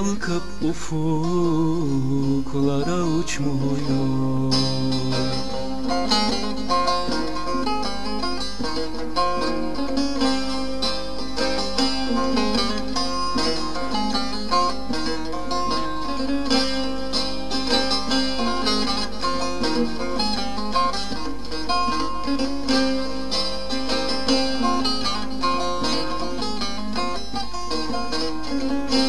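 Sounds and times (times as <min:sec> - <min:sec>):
plucked string folk music: 0:00.0 - 0:29.0.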